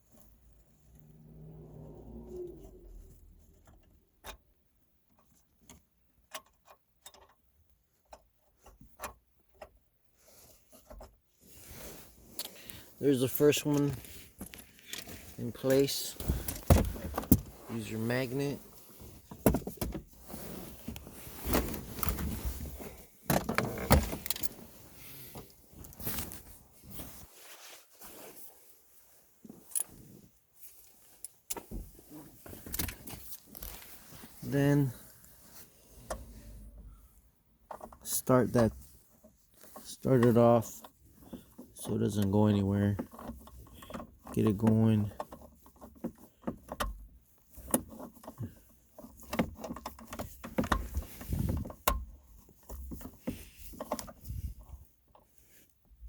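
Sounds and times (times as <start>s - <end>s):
soft rustle: 10.0s - 56.0s.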